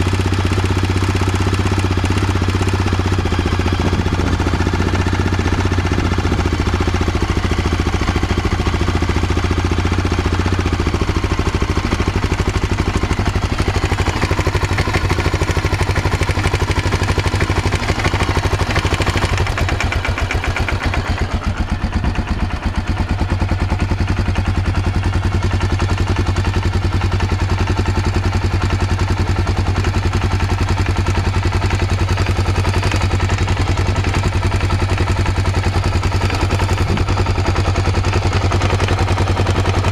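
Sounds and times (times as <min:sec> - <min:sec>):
motorcycle engine idling with knock: 0:00.0 - 0:39.9.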